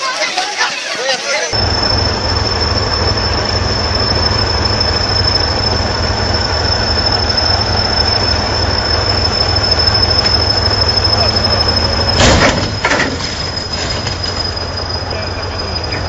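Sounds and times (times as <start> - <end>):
diesel engine rumble: 1.6 - 16.0
high-pitched whine: 1.6 - 16.0.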